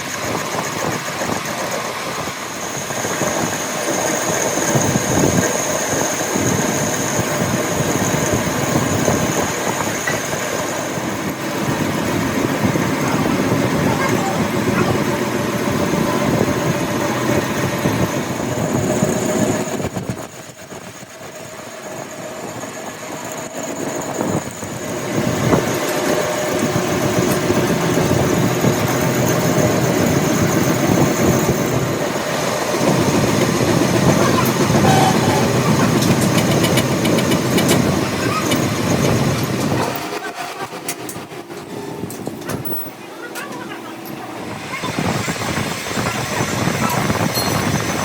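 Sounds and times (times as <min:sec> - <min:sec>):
steady machine noise: 0:00.0 - 0:48.0.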